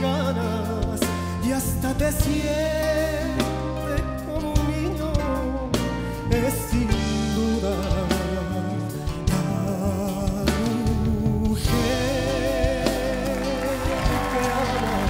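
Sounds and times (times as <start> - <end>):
bass: 0.0 - 15.0
man singing a ballad: 0.0 - 15.0.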